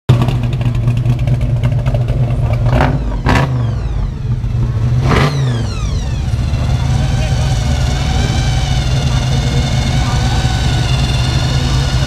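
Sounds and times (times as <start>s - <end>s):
supercharged engine idling and revving: 0.1s - 12.0s
supercharger whine: 0.1s - 12.0s.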